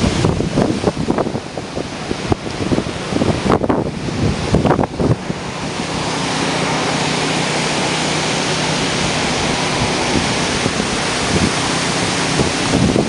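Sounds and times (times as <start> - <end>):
driving rain: 0.0 - 13.0
hurricane wind: 0.0 - 13.0.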